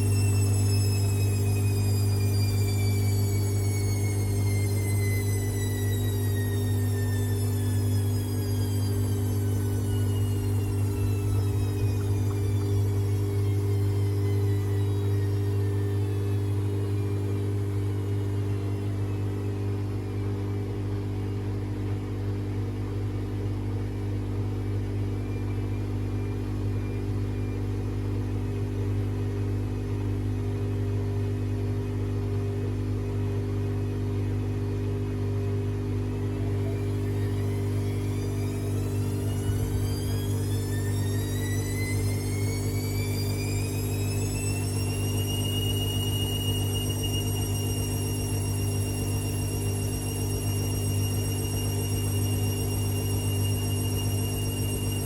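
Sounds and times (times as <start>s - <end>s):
motor whine: 0.0s - 55.0s
washing machine hum: 0.0s - 55.0s.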